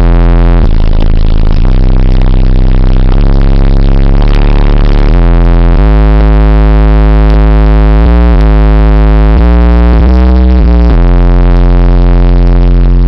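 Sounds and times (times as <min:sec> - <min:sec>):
bass-heavy electronic music: 0:00.0 - 0:13.0.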